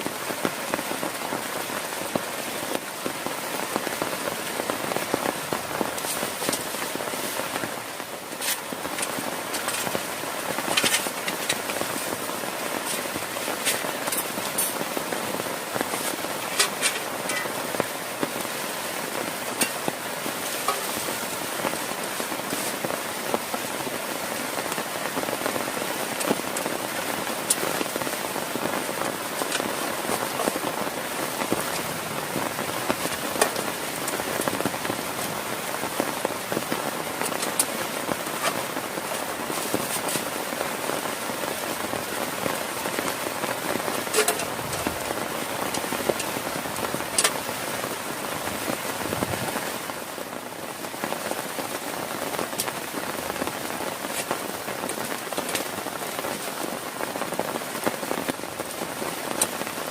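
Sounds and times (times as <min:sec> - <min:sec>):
heavy rain falling: 0:00.0 - 0:59.9
raindrops clicking on surface: 0:00.0 - 0:59.9.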